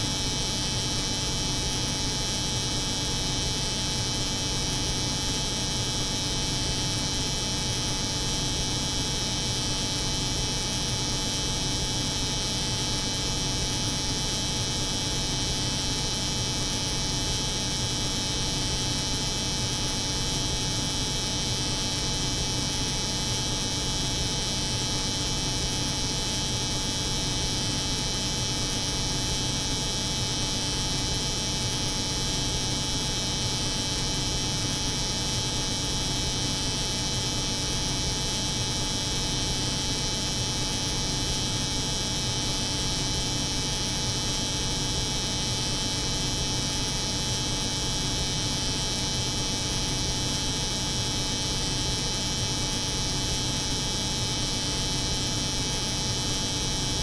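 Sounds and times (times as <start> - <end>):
cold room hum: 0.0 - 57.0.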